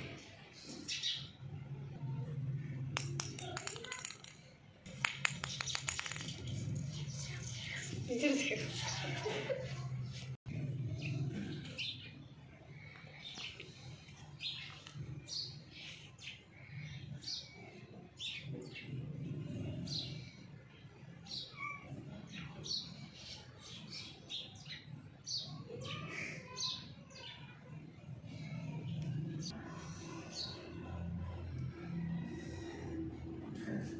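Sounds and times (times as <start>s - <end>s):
small birds chirping: 0.0s - 9.2s, 10.1s - 33.1s.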